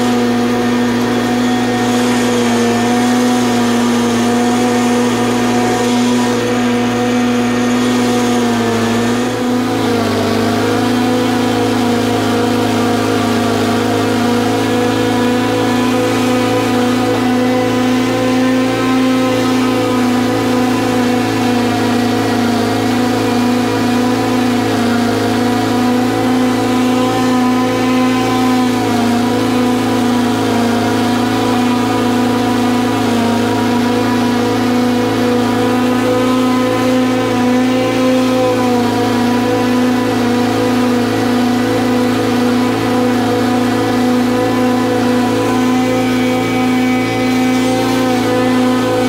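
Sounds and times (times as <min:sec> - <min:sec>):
mower engine running: 0:00.0 - 0:49.0.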